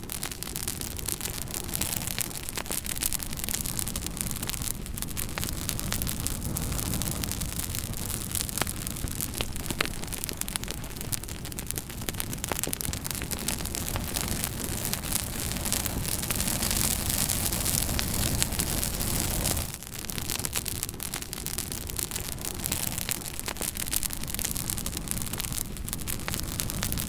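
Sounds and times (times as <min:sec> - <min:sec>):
fire crackling: 0:00.0 - 0:27.0
fire rushing hiss: 0:00.0 - 0:27.0.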